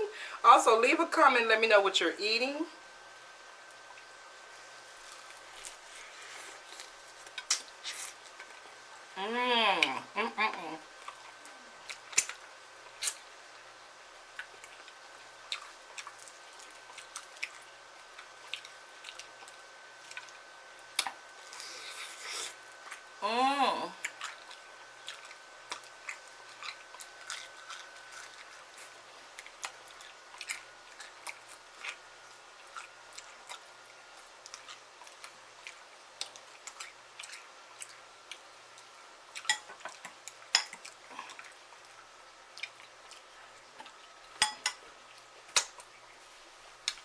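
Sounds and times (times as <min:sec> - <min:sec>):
person chewing and biting food: 0:04.8 - 0:08.7, 0:11.0 - 0:13.3, 0:14.3 - 0:23.1, 0:24.0 - 0:47.0.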